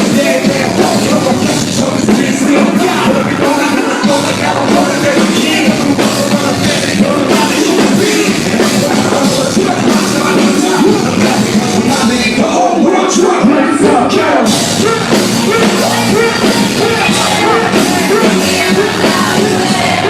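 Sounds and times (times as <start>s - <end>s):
live rap-rock concert music: 0.0s - 20.0s
vocals over beat: 0.0s - 20.0s.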